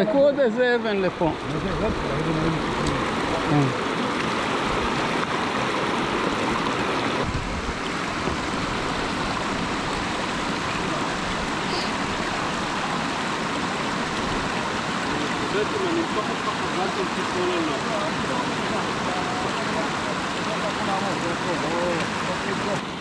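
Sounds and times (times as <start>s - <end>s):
stream water rushing over stones: 0.0s - 23.0s.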